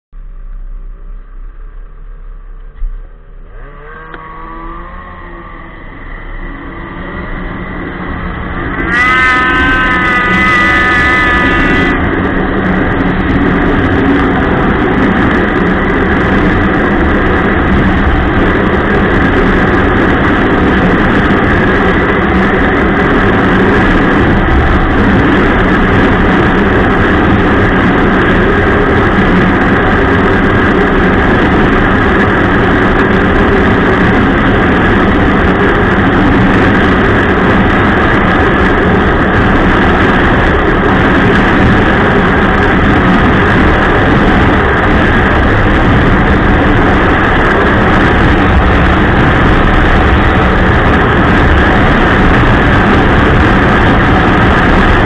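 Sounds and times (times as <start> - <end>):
snowmobile engine droning: 0.2 - 55.0.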